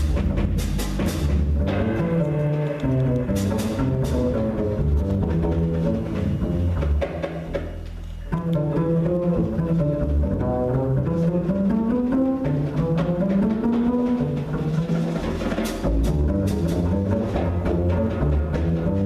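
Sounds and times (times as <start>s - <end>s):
bass line: 0.0s - 19.0s
jazz band playing: 0.0s - 19.0s.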